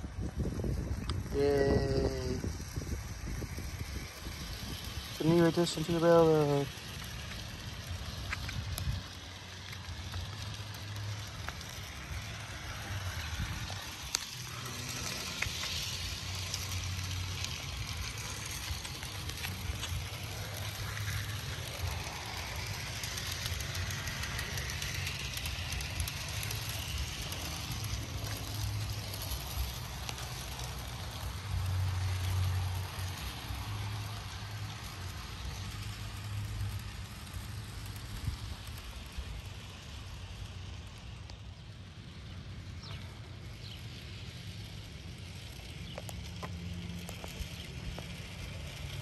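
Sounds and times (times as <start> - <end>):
low rumble: 0.0 - 49.0
model train whirring rattle: 0.0 - 49.0.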